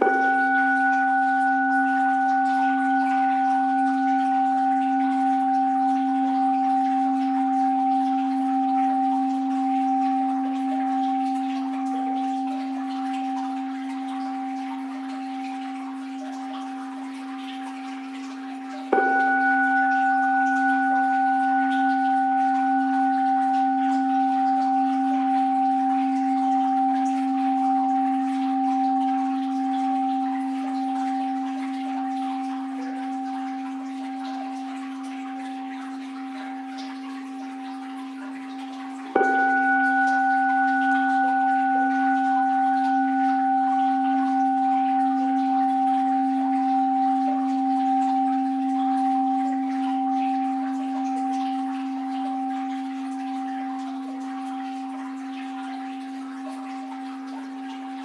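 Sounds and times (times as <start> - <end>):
bowl bell ringing: 0.0 - 58.0.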